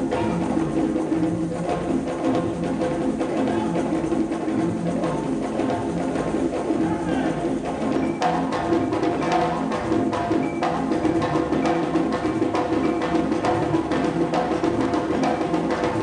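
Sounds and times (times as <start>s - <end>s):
hand drums fast rhythm: 0.0s - 16.0s.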